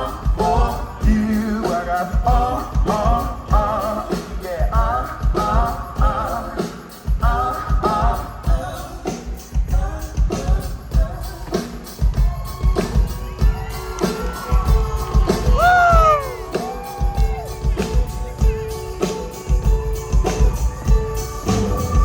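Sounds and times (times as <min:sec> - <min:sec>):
bass: 0:00.0 - 0:22.0
steady drum beat: 0:00.0 - 0:22.0.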